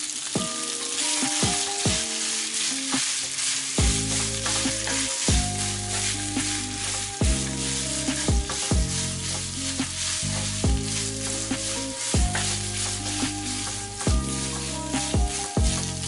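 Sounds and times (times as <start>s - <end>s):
background music with steady beat: 0.0s - 16.0s
food sizzling in a pan: 0.0s - 16.0s
spatula stirring in a pan: 0.0s - 16.0s.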